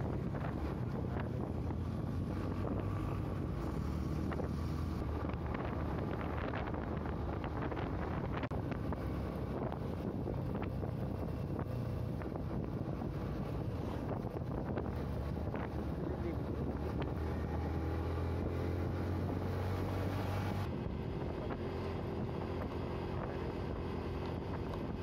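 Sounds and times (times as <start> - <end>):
motorcycle engine humming: 0.0 - 25.0
wind buffeting microphone: 0.0 - 25.0.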